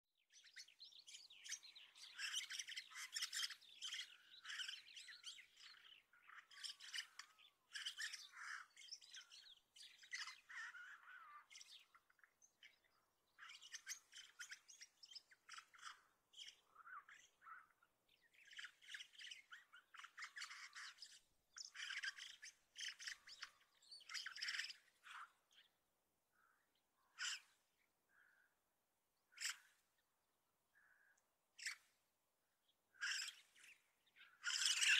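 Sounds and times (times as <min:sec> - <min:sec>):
starling song and calls: 0:00.3 - 0:25.7, 0:26.4 - 0:28.5, 0:29.3 - 0:29.8, 0:30.8 - 0:31.9, 0:32.9 - 0:34.9.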